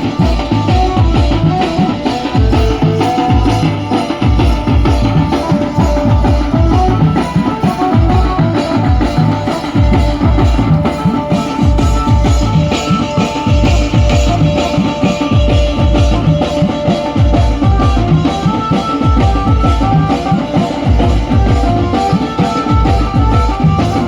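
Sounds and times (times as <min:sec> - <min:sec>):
fast dense drumming: 0:00.0 - 0:24.0
melody of held notes: 0:00.0 - 0:24.0.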